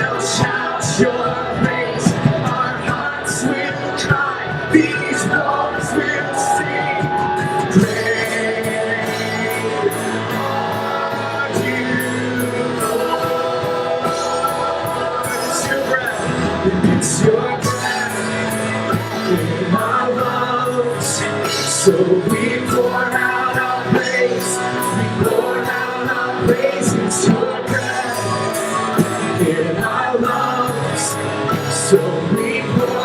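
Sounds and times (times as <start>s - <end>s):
live worship band playing: 0.0s - 33.0s
voices singing: 0.0s - 33.0s.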